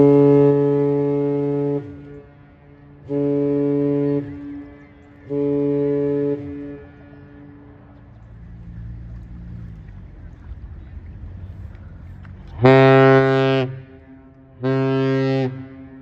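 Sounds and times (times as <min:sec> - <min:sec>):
ship horn blasts: 0:00.0 - 0:16.0.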